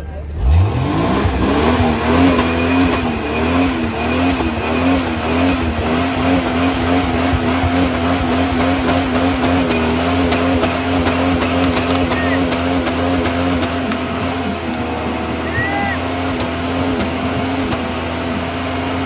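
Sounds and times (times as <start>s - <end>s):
car engine at high rpm: 0.3s - 19.0s
tyre roar: 0.5s - 18.1s.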